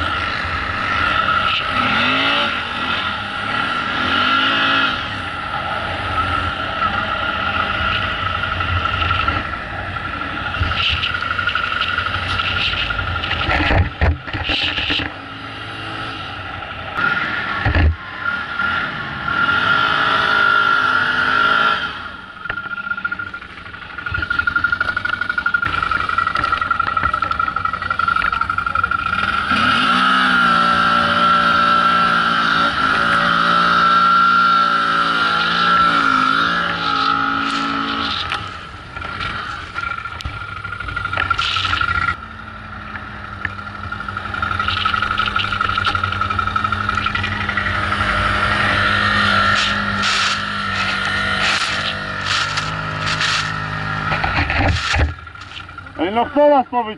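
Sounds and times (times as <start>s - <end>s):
quad engine revving: 0.0s - 56.9s.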